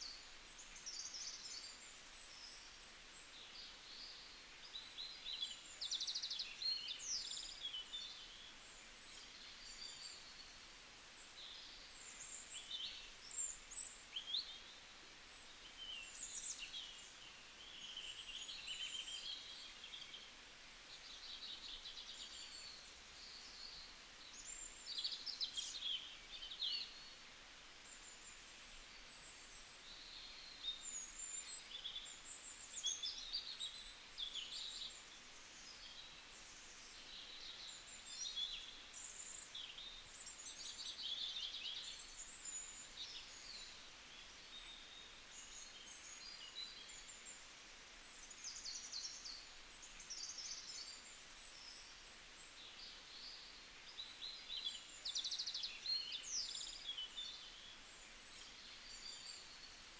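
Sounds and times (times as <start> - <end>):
faint background hiss: 0.0 - 59.9
small birds chirping: 0.0 - 59.9.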